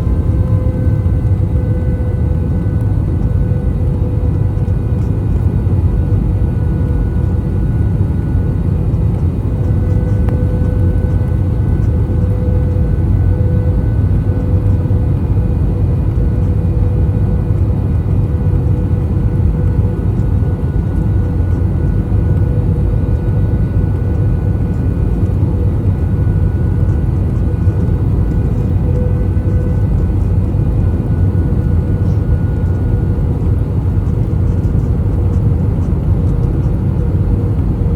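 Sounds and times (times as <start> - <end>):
airflow and jet engines rumbling: 0.0 - 37.9
faint steady whine: 0.0 - 37.9.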